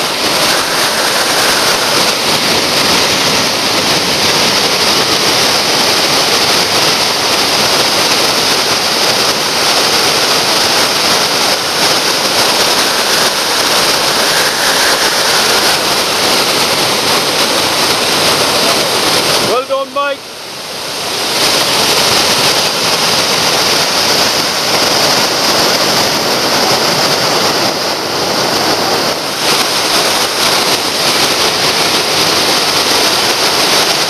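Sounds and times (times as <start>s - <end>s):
water rushing over rocks: 0.0s - 34.0s.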